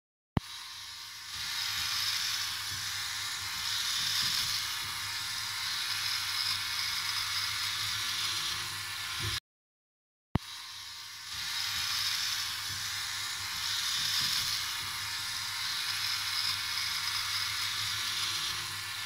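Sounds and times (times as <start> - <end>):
electric trimmer buzzing: 0.4 - 9.4, 10.4 - 19.0.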